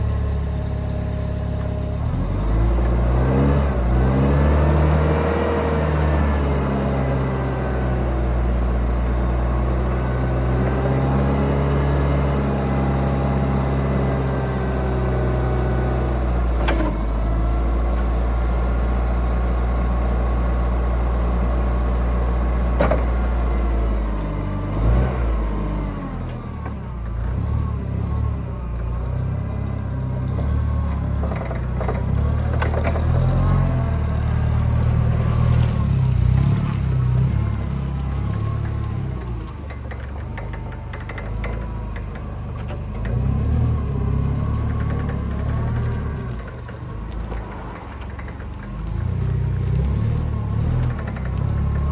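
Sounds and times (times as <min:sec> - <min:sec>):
forklift engine revving: 0:00.0 - 0:51.9.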